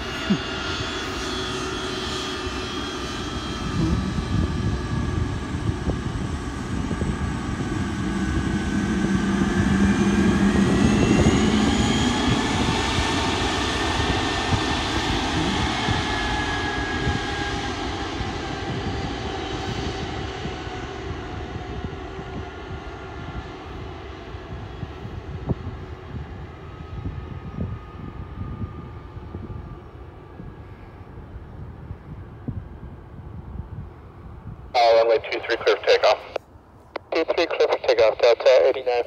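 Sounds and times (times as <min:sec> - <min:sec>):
jet engines taxiing: 0:00.0 - 0:33.2, 0:33.8 - 0:39.0.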